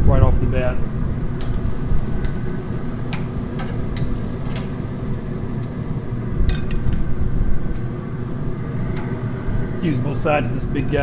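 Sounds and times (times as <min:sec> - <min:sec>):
grill low rumble: 0:00.0 - 0:11.0.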